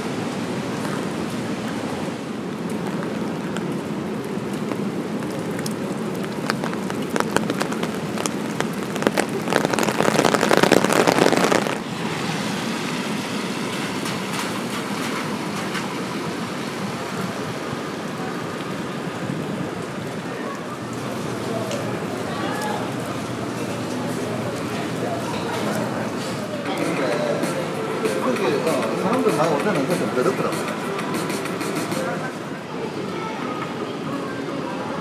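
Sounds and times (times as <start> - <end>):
rain on a street: 0.0 - 35.0
splashing rush of water: 0.0 - 35.0.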